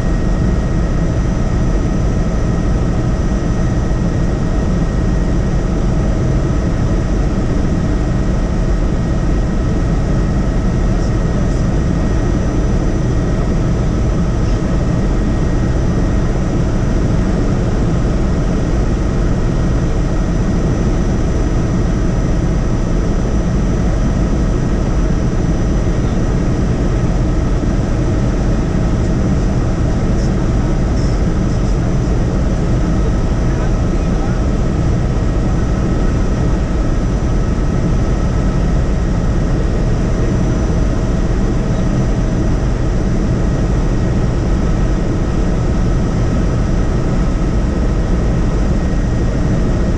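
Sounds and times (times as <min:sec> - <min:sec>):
helicopter rotor and engine rumble: 0:00.0 - 0:49.9.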